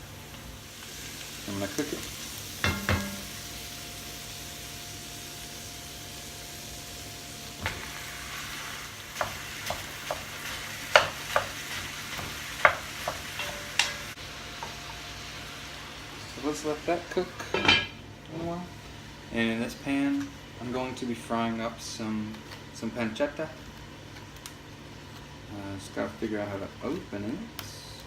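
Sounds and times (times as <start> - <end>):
food sizzling in oil: 0.0 - 27.6.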